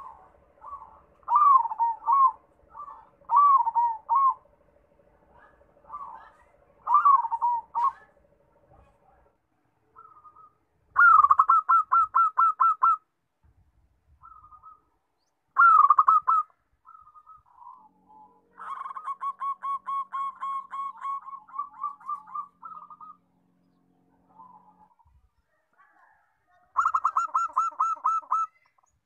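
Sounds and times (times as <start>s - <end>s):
dove cooing: 0.0s - 9.3s, 9.9s - 13.0s, 14.2s - 14.9s, 15.6s - 23.5s, 24.1s - 25.2s, 25.8s - 28.9s.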